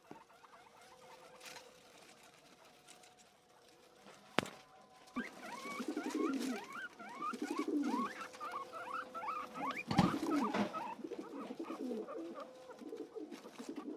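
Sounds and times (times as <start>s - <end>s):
guinea pigs squeaking: 0.0s - 13.9s
rustling grass leaves: 0.7s - 13.9s.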